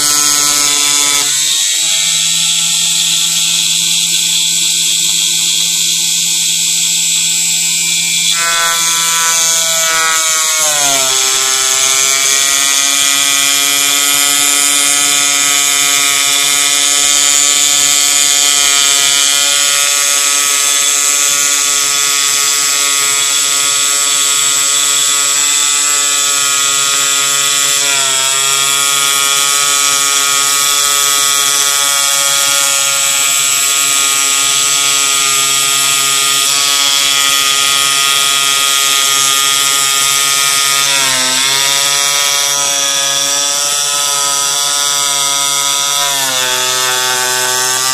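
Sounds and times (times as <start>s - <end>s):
machine motors whining: 0.0s - 47.9s.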